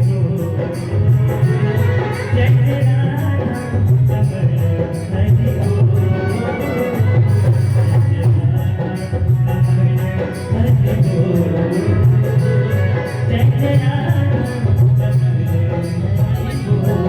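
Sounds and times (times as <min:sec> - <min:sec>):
devotional music: 0:00.0 - 0:17.0
jingling percussion: 0:00.0 - 0:17.0
low drum notes: 0:00.0 - 0:17.0.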